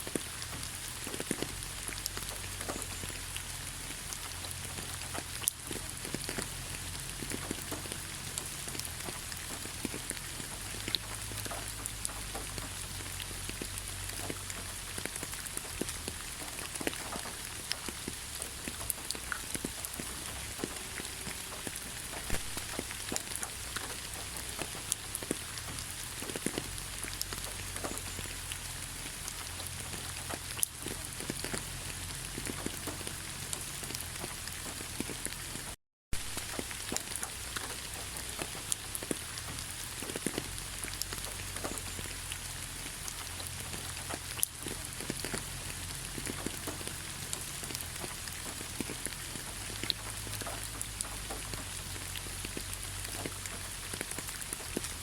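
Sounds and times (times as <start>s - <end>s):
raindrops ticking close by: 0.0s - 55.0s
steady rain hissing: 0.0s - 55.0s.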